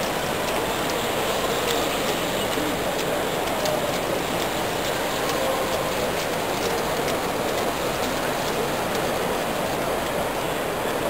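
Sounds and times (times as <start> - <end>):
distant voices: 0.0 - 11.0
model train clicking on track: 0.0 - 11.0.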